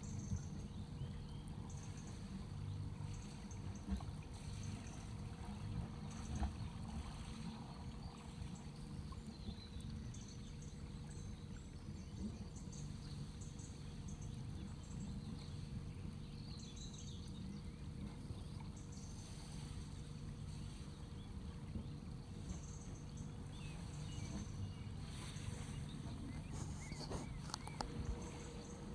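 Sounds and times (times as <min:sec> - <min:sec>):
boat engine rumbling: 0:00.0 - 0:28.9
faint hum: 0:00.0 - 0:28.9.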